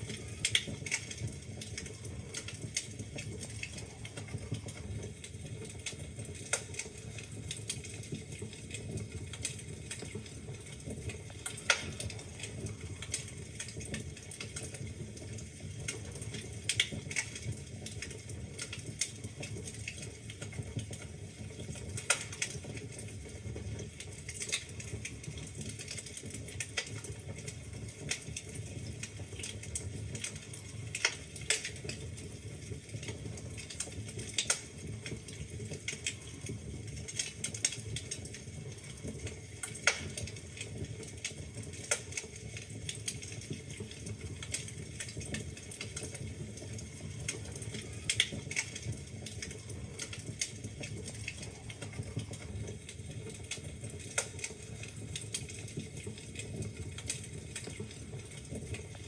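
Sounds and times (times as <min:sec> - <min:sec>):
burning logs popping: 0:00.0 - 0:59.0
wood fire crackling: 0:00.0 - 0:59.0.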